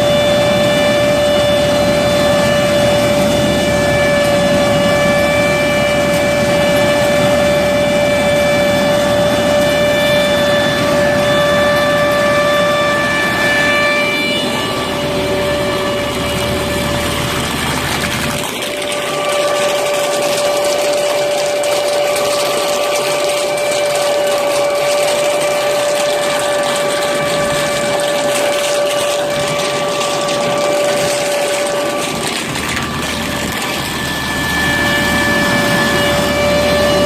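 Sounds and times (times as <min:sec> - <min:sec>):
harvester machine whine: 0:00.0 - 0:37.0
higher whine: 0:00.0 - 0:37.0.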